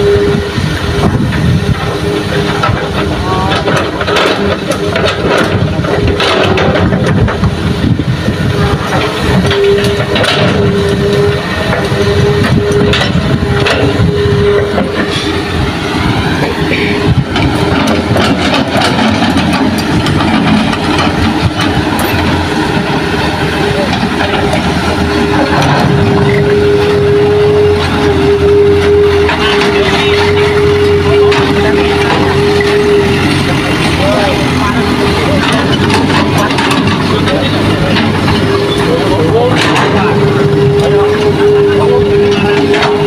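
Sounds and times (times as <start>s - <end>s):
excavator diesel engine whining: 0.0s - 43.0s.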